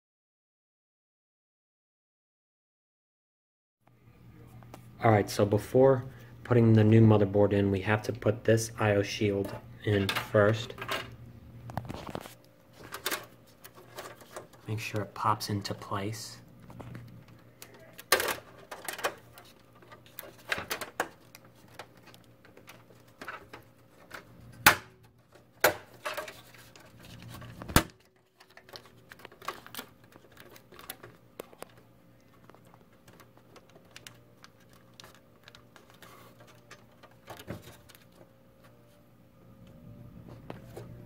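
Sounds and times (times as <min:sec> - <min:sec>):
low steady hum: 0:03.9 - 0:41.0.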